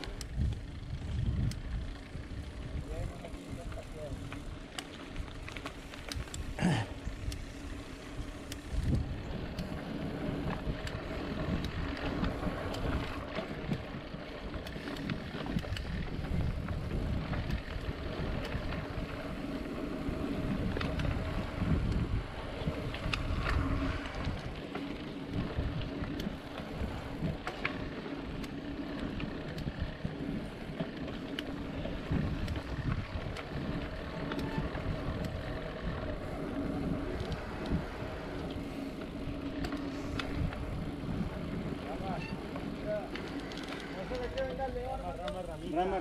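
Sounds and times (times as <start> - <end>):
wind buffeting microphone: 0.0 - 27.9, 31.8 - 43.2
tyres rumbling on dirt: 1.9 - 46.0.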